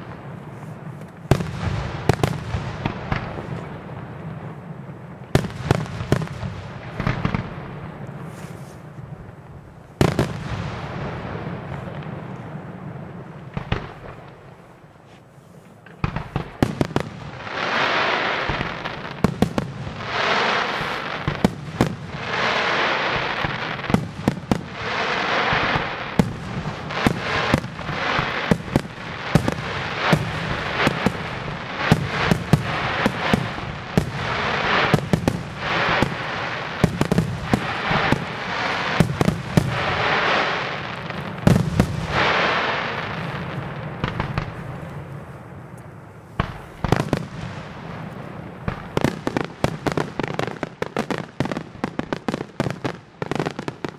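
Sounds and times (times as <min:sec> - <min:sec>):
firework bangs: 0:00.0 - 0:14.6, 0:15.9 - 0:53.9
firework crackling and hissing: 0:00.0 - 0:53.9.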